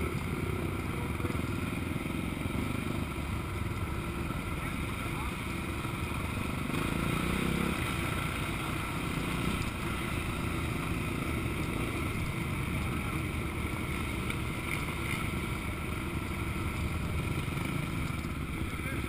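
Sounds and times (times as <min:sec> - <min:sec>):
motorbike engine running: 0:00.0 - 0:19.0.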